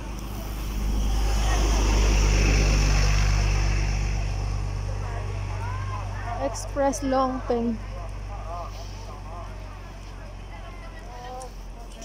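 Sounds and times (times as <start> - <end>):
bus driving past: 0.0 - 12.0.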